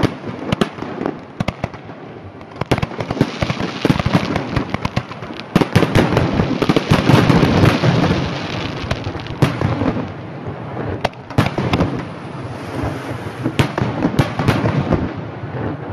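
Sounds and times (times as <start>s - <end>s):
fireworks bursting and crackling: 0.0s - 15.9s
sharp firework bangs: 0.0s - 15.9s.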